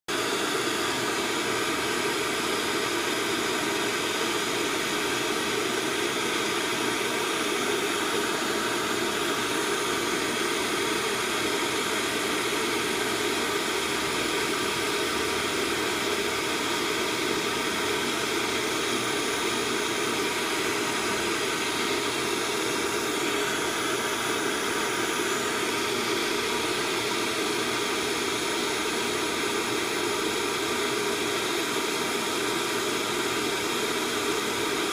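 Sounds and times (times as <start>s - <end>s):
gas torch hissing: 0.3s - 31.4s.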